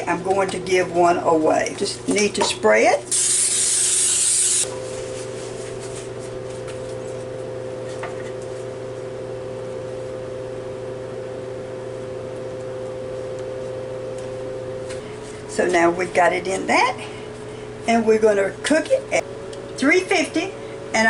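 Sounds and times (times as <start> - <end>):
countertop oven humming: 0.0 - 21.0.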